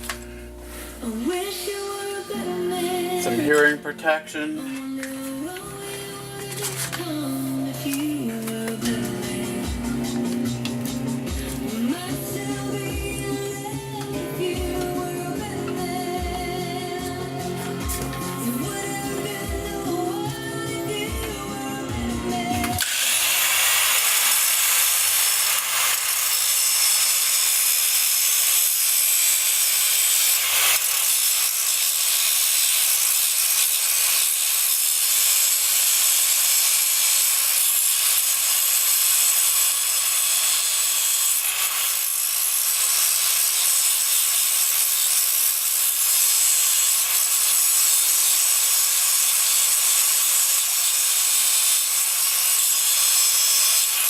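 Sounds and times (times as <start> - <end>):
power grinder grinding steel: 0.0 - 54.0.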